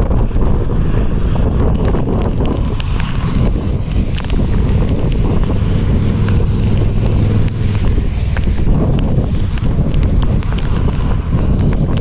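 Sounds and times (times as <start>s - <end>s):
wind buffeting microphone: 0.0s - 12.0s
sharp ticks: 1.4s - 12.0s.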